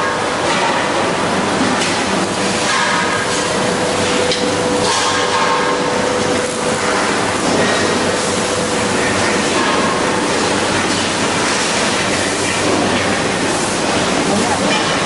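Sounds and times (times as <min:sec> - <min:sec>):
loud machinery noise: 0:00.0 - 0:15.0
steady hum: 0:00.0 - 0:15.0.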